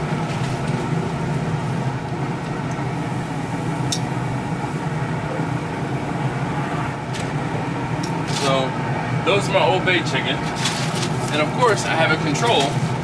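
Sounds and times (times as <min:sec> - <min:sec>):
haze of noise: 0:00.0 - 0:13.0
low mechanical hum: 0:00.0 - 0:13.0.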